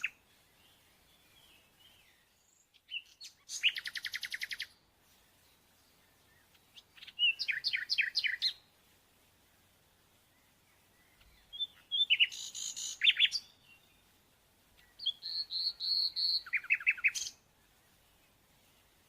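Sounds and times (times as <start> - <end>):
small bird singing trills: 0.0 - 8.7, 10.2 - 19.0.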